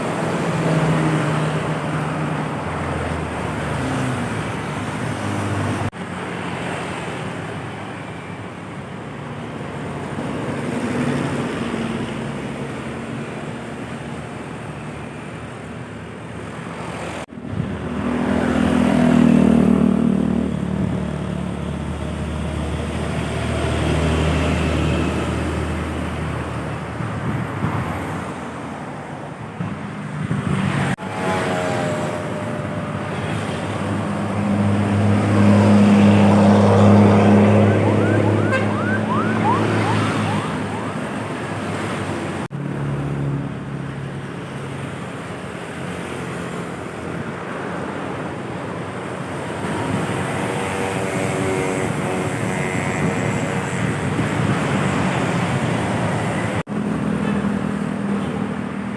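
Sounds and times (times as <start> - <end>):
heavy vehicles passing: 0.0 - 58.9.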